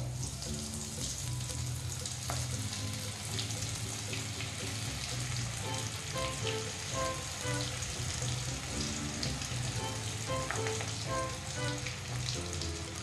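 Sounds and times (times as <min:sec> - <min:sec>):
oil sizzling and bubbling: 0:00.0 - 0:13.0.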